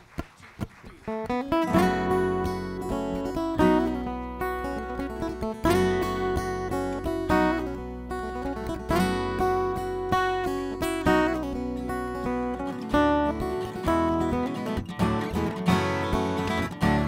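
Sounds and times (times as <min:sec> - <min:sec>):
acoustic guitar strumming: 0:00.6 - 0:17.0
picked string notes: 0:01.1 - 0:17.0
bass line: 0:01.7 - 0:17.0.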